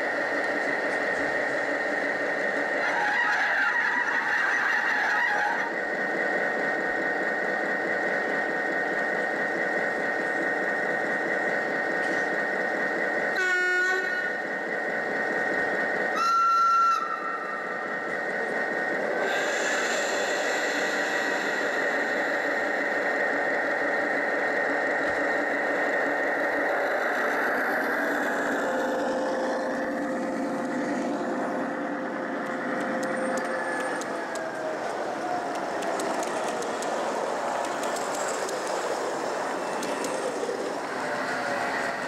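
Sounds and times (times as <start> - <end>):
model train running hum: 0.0 - 42.0.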